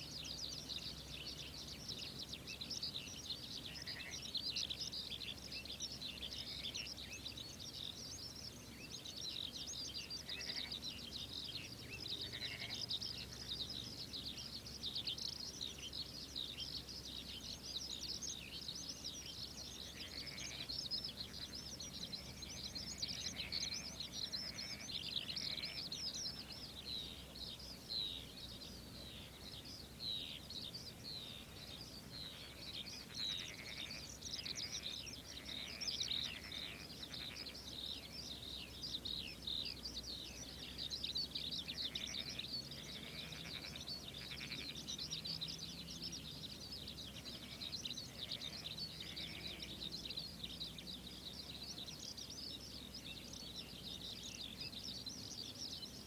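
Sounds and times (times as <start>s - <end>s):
chorus of birds and frogs: 0.0s - 56.0s.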